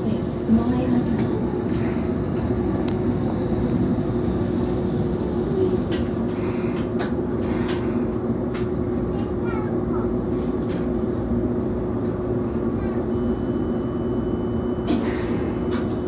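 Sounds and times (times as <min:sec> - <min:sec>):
steel wheels rumbling on rail: 0:00.0 - 0:16.0
streetcar motor hum: 0:00.0 - 0:16.0.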